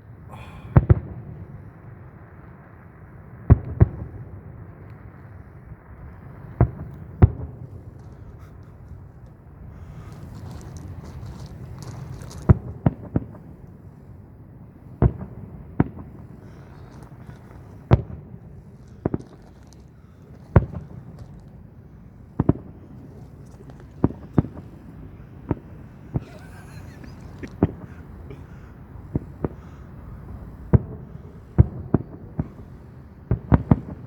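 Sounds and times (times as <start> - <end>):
fireworks bangs: 0.3 - 34.0.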